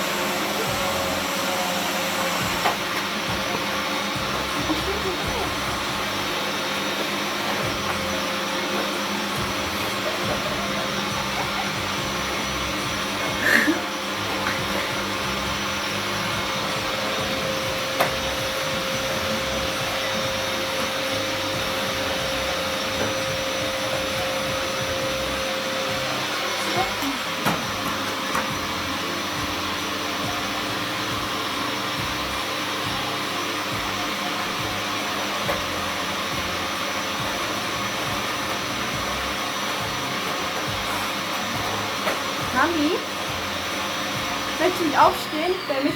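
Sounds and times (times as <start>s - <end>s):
vacuum knocking on floor: 0.0s - 32.2s, 34.6s - 45.3s
vacuum cleaner running: 0.0s - 45.9s.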